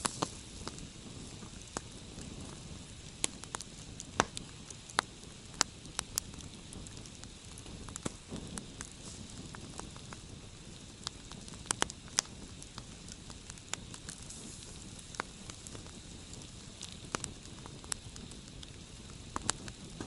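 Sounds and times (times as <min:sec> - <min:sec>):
campfire crackling and popping: 0:00.0 - 0:20.0
rush of flames: 0:00.0 - 0:20.0.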